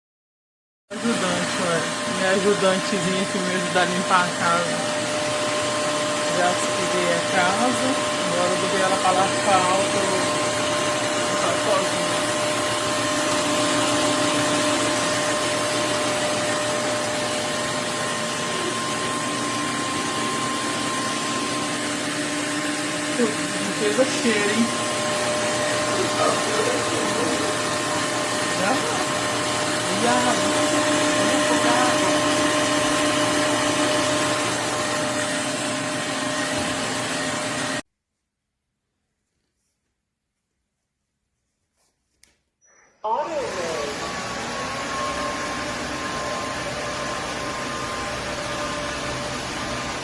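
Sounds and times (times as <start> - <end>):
vacuum mop motor humming: 0.9 - 37.8, 43.0 - 50.0.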